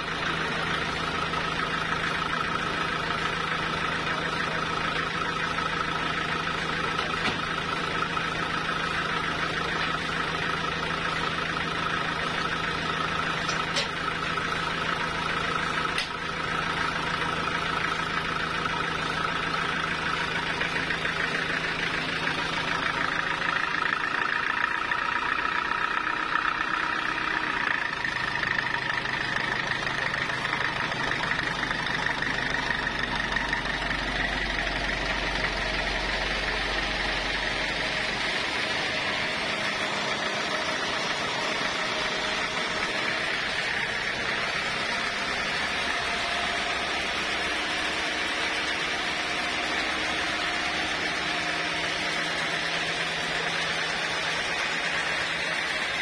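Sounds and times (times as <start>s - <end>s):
sawmill engine whining: 0.0s - 56.0s.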